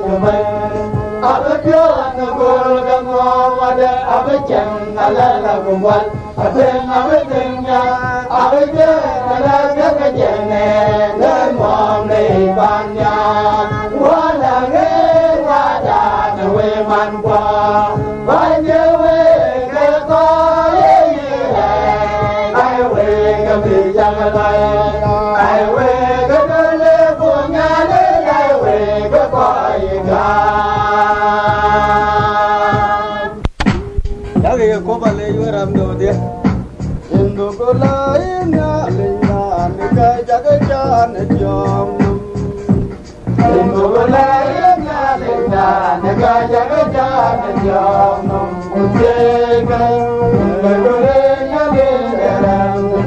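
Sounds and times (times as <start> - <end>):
voices singing gospel song: 0.0 - 33.5, 34.2 - 53.0
steady low beat: 0.0 - 53.0.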